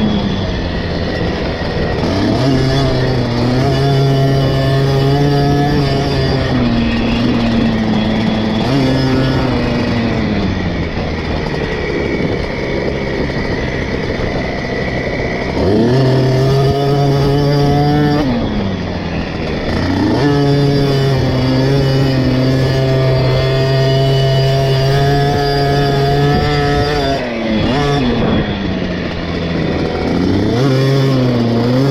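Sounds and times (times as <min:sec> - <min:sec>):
two-stroke engine revving: 0:00.0 - 0:31.9.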